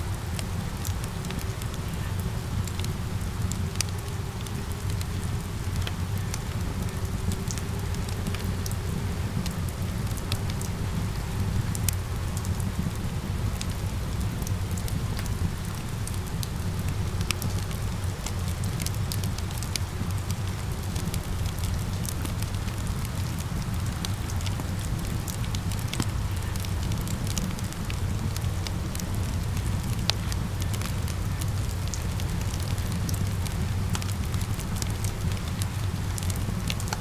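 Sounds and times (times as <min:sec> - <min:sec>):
steady rain: 0:00.0 - 0:37.0
wood fire crackling: 0:00.0 - 0:37.0.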